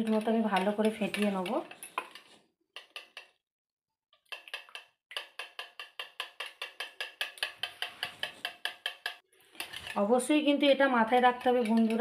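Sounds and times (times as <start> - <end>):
whisk clicking against bowl: 0.0 - 3.4, 4.3 - 10.1, 10.7 - 12.0.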